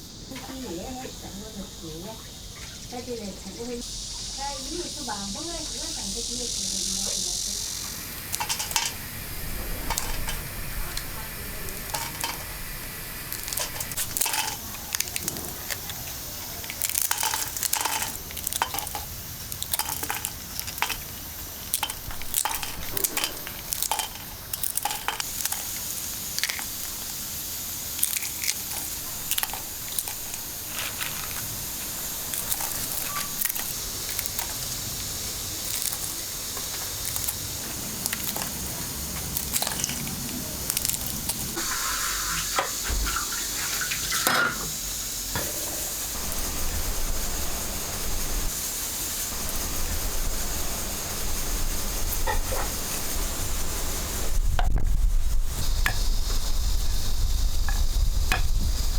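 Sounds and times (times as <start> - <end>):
food sizzling in a pan: 0.0 - 58.9.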